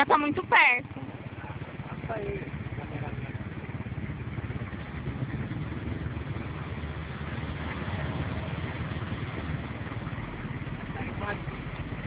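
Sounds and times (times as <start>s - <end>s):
small engine puttering: 0.0s - 12.0s.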